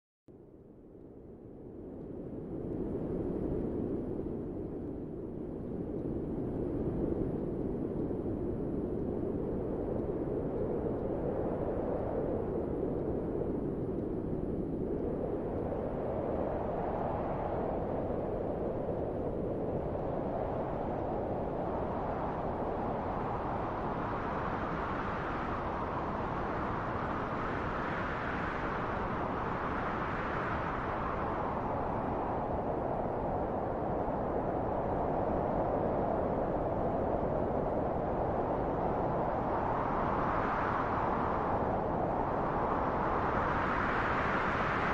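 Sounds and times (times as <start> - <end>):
wind rushing: 2.4 - 44.9.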